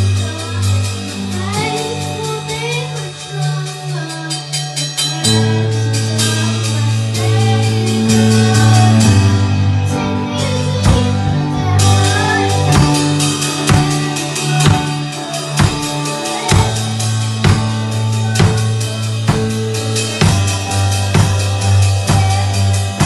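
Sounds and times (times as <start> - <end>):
drum kit playing: 0.0 - 23.0
keyboard sustained low chords: 0.0 - 23.0.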